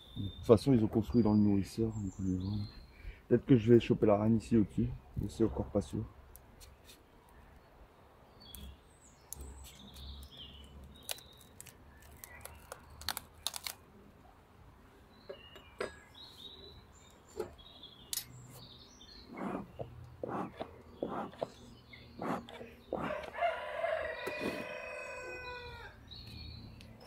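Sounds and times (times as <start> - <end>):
birds chirping: 0.0 - 13.6, 14.2 - 27.0.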